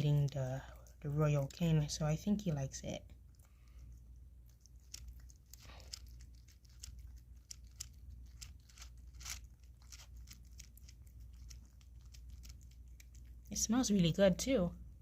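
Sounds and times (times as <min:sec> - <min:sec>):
kitten chewing wet food: 0:00.0 - 0:13.7.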